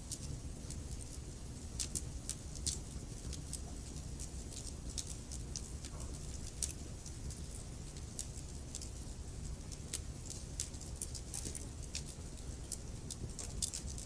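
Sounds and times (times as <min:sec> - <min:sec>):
wood fire burning in fireplace: 0:00.0 - 0:14.0.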